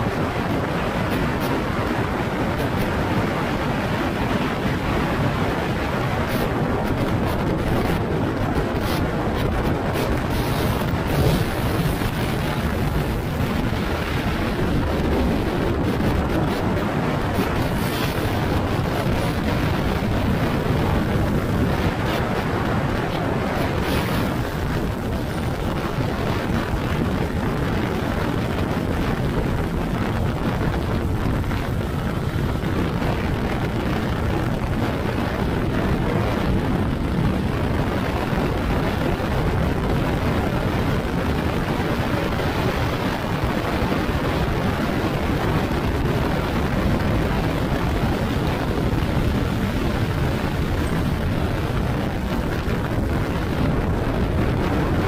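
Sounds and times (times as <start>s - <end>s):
vehicle moving noise: 0.0s - 55.0s.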